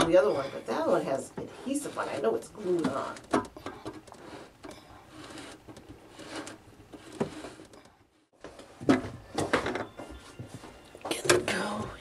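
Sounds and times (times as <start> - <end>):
plastic pipe rubbing and scraping: 0.0 - 11.8.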